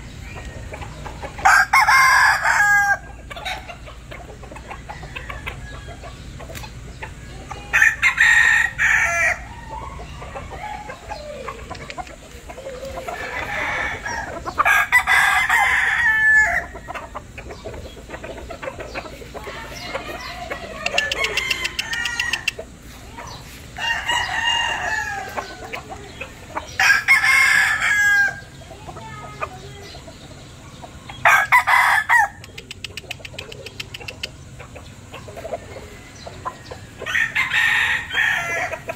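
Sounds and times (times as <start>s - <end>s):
roosters crowing: 0.0s - 38.9s.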